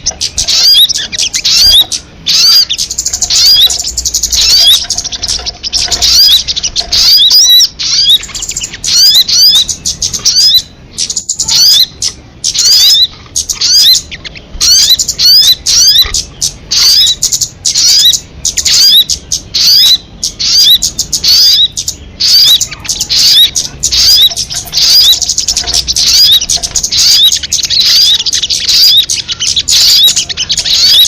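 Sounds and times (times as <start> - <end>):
songbird rapid high chirps: 0.0 - 31.0.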